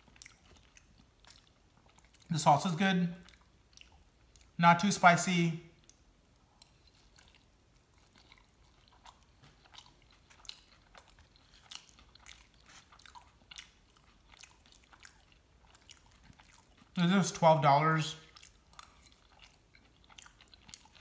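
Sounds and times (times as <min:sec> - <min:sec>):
faint chewing with small crunches: 0:00.0 - 0:21.0.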